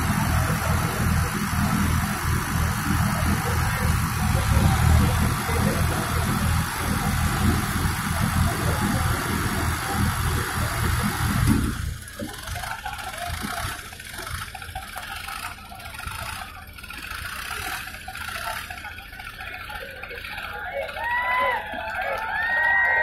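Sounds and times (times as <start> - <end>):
diesel tractor engines under load: 0.0 - 23.0.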